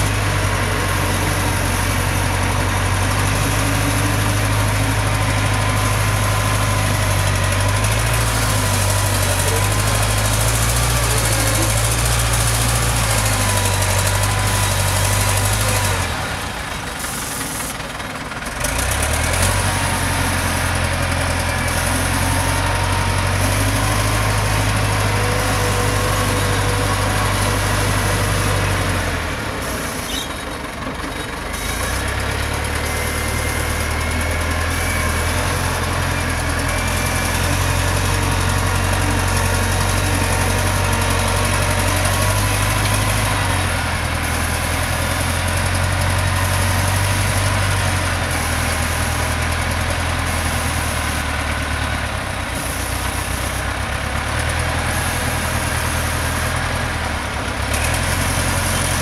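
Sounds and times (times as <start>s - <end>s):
wheel loader diesel engine running: 0.0s - 59.0s.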